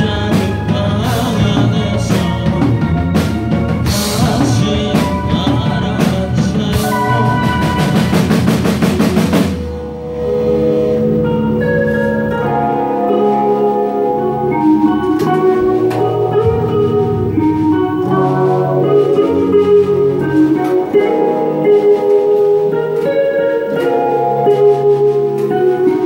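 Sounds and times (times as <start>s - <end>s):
drum kit: 0.0s - 26.0s
electric bass: 0.0s - 26.0s
electric guitars ringing chords: 0.0s - 26.0s.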